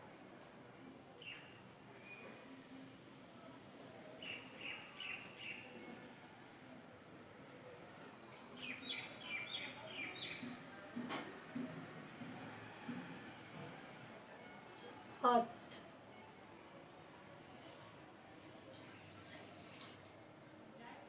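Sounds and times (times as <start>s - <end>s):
faint background noise: 0.0s - 21.0s.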